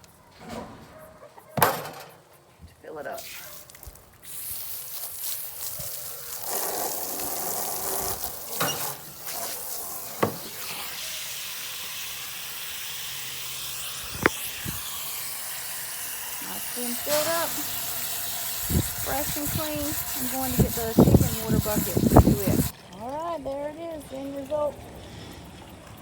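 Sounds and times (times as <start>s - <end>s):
water running into a bucket: 3.2s - 26.0s.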